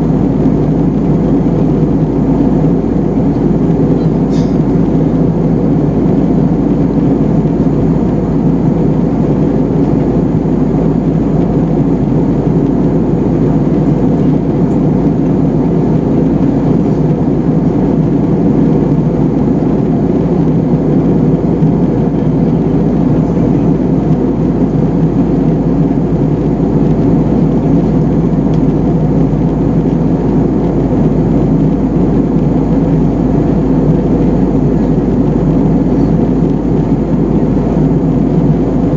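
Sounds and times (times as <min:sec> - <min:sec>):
jet cabin engine roar: 0:00.0 - 0:38.9.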